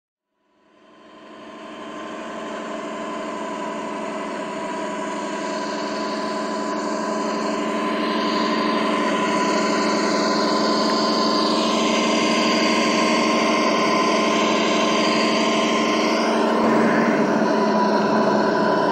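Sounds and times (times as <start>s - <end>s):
simulated truck engine from speaker: 0.5s - 18.9s.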